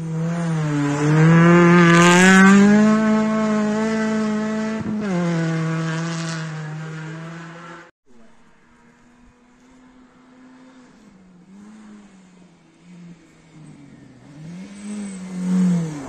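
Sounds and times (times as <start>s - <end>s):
rally car engine at high revs: 0.0s - 16.0s.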